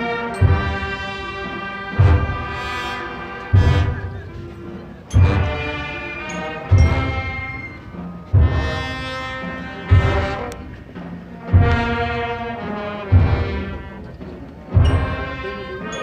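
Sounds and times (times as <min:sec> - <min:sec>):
brass band funeral march: 0:00.0 - 0:16.0
heavy drum strokes: 0:00.0 - 0:16.0.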